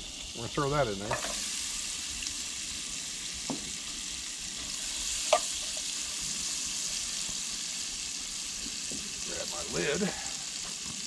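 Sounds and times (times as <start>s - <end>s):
onion sizzling in a pan: 0.0s - 11.0s.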